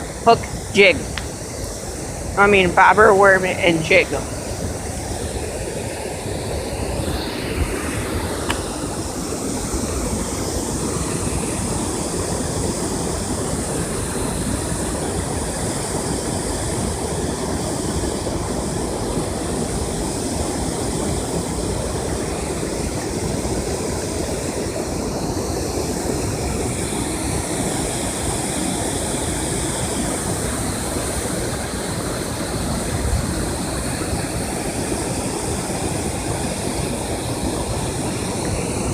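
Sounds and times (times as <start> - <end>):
water roaring through a dam: 0.0 - 38.9.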